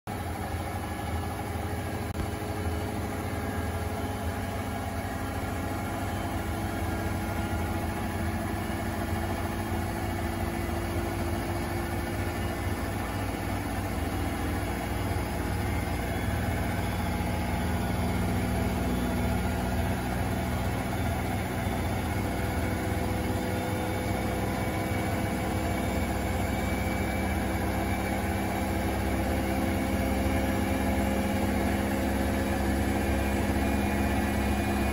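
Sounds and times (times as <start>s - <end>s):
washing machine spinning: 0.1s - 34.9s.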